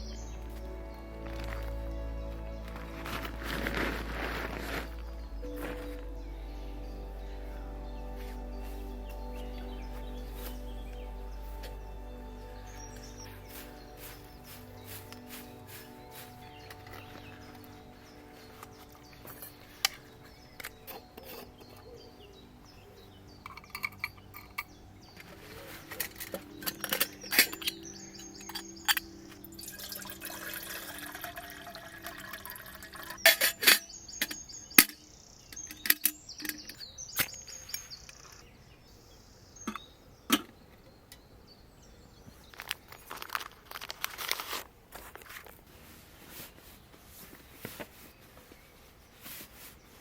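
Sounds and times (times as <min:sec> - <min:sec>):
bird chirping: 0:00.0 - 0:44.6.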